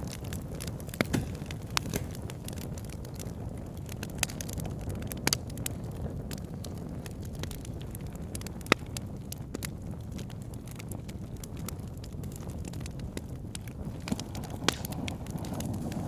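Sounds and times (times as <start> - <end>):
fire crackles and pops: 0.0 - 16.0
fire flames rumbling: 0.0 - 16.0.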